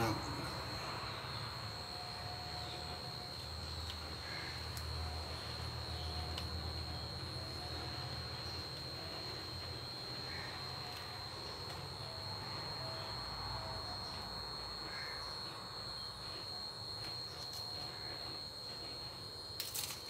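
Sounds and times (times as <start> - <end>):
cricket droning: 0.0 - 20.0.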